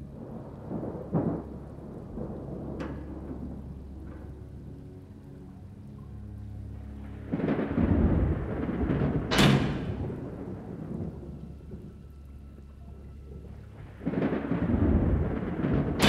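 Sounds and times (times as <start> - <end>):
orchestral music: 0.0 - 16.0
thunder rumbling: 0.0 - 16.0.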